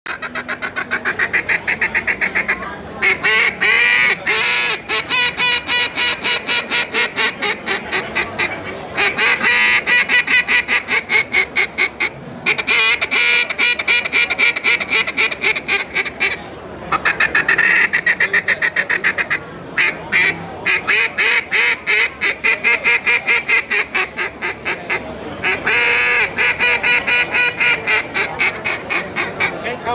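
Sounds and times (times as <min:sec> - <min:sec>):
duck call quacks: 0:00.1 - 0:29.6.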